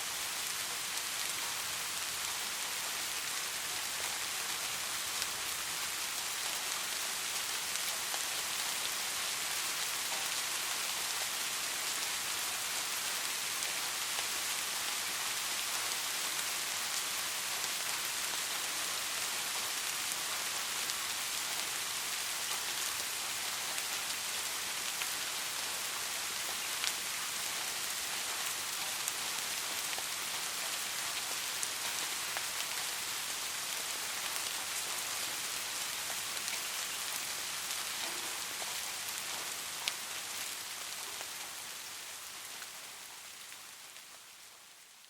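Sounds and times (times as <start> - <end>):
soft rain falling: 0.0 - 45.0.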